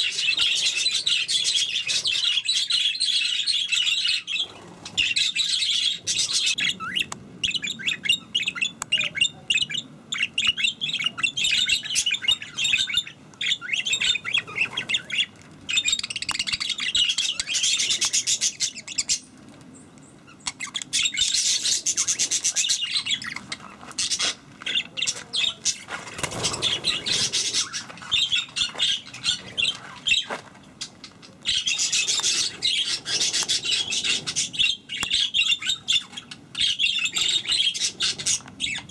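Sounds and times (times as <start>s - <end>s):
budgerigars chirping: 0.0s - 19.3s, 20.3s - 38.9s.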